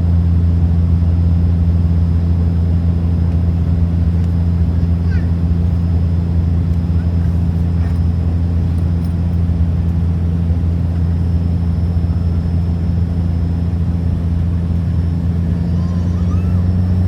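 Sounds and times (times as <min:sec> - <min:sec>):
propeller cabin drone: 0:00.0 - 0:17.0.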